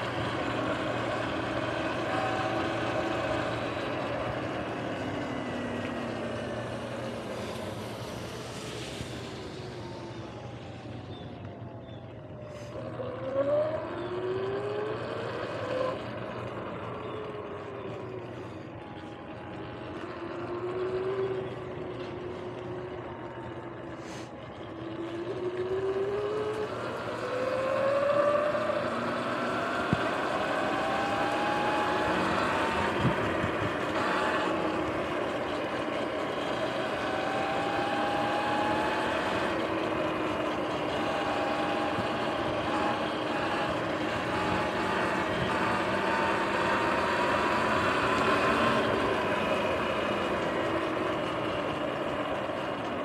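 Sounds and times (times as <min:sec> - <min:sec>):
electric motor whine: 0:00.0 - 0:53.0.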